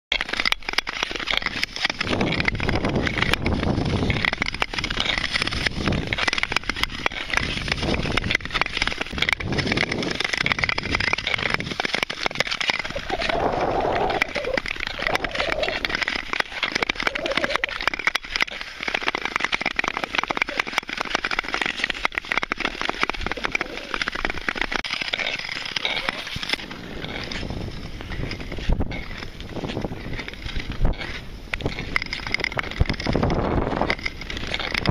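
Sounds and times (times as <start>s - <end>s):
skates scraping on ice: 0.1s - 34.9s.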